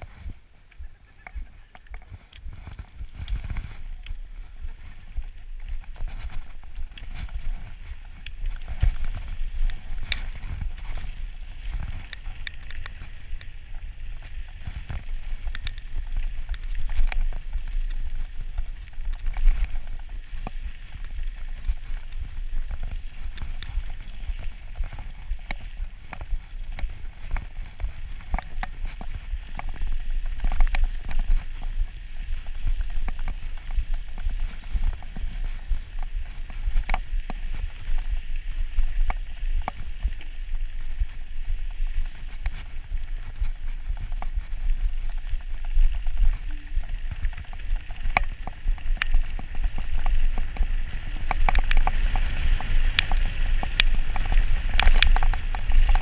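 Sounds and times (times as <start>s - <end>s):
wind buffeting microphone: 0.0s - 56.0s
bike rattling over bumps: 1.3s - 56.0s.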